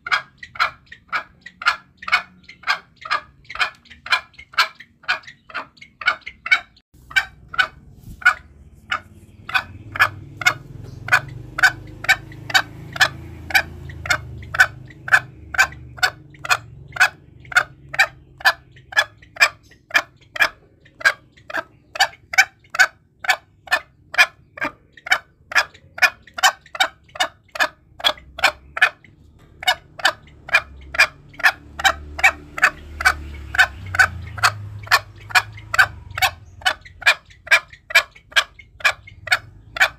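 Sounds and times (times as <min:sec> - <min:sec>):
junglefowl clucking: 0:00.0 - 0:39.9.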